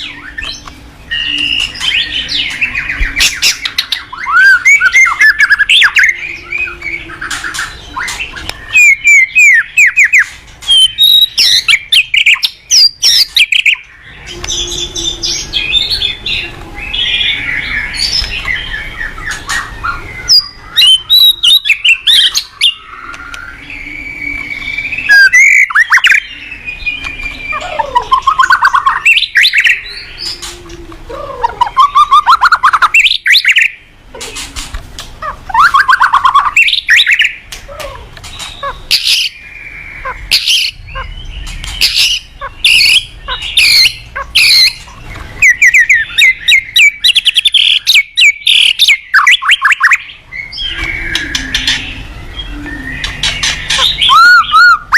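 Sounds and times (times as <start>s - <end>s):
songbird singing whistles and trills: 0.0s - 30.5s, 31.4s - 33.9s, 35.5s - 37.5s, 38.3s - 54.9s.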